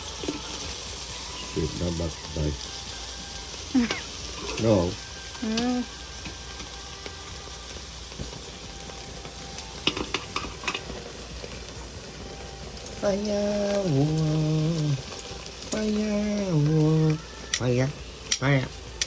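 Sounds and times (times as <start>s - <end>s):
food sizzling on grill: 0.0s - 19.0s.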